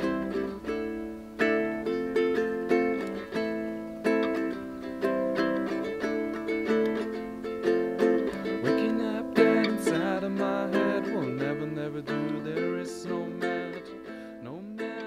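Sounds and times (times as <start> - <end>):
small guitar plucked chords: 0.0 - 15.0.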